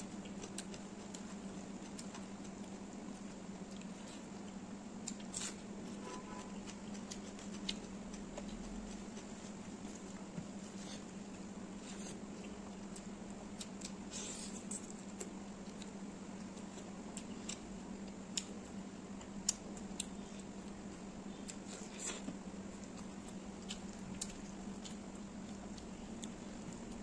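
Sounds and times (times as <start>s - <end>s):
chewing: 0.0s - 5.6s, 6.4s - 17.7s, 21.4s - 27.0s
steady low hum: 0.0s - 27.0s.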